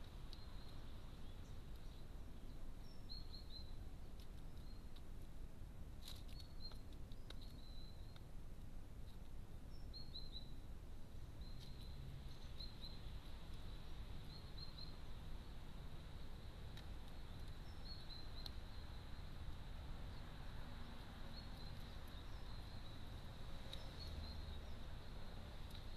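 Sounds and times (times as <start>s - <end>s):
small birds chirping: 0.0s - 5.3s, 6.0s - 8.4s, 9.0s - 25.9s
low steady background noise: 0.0s - 25.9s.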